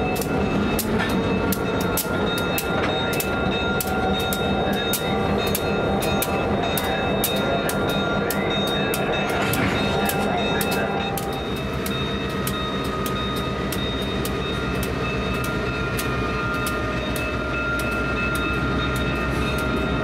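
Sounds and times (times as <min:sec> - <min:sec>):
locomotive engine rumble: 0:00.0 - 0:20.0
sharp metallic clicks: 0:00.1 - 0:19.8.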